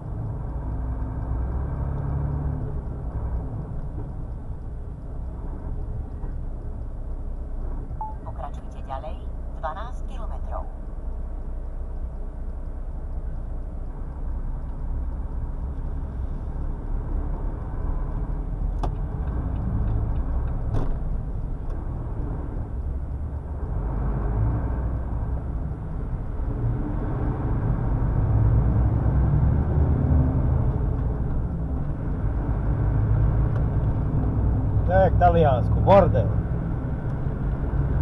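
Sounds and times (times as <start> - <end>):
road rumble: 0.0 - 38.0
truck engine: 0.0 - 38.0.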